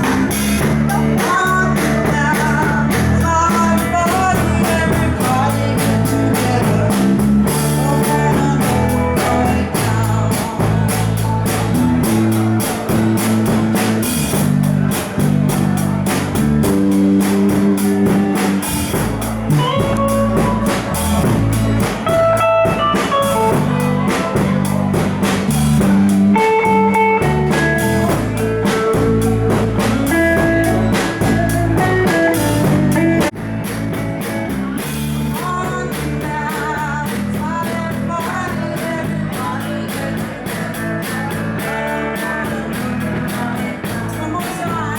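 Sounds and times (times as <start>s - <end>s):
bass guitar: 0.0s - 44.9s
drum kit: 0.0s - 44.9s
electric guitar: 0.0s - 44.9s.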